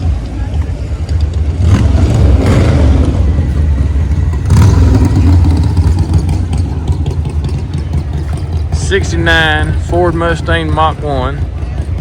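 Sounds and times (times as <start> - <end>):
car engine rumbling past: 0.9 - 12.0.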